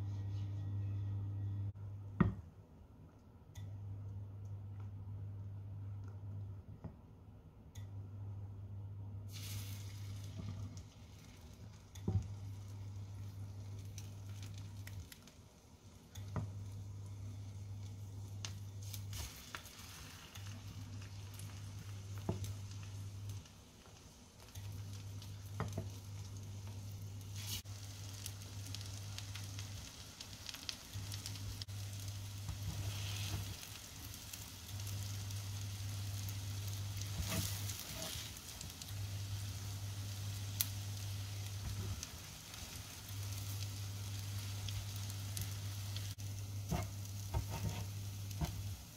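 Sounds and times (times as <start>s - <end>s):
low hum of a hob: 0.0s - 48.9s
bread sizzling in hot oil: 9.3s - 48.9s.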